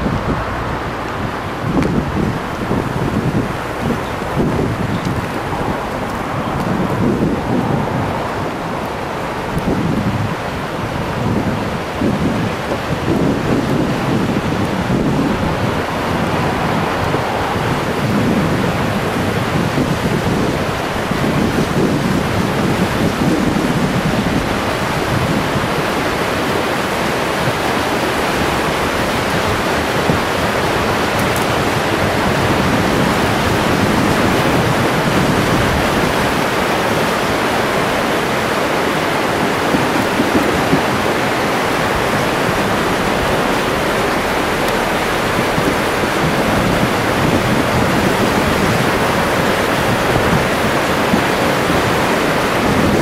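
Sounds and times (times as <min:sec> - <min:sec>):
flood water rushing: 0:00.0 - 0:53.0
wind buffeting microphone: 0:00.0 - 0:53.0.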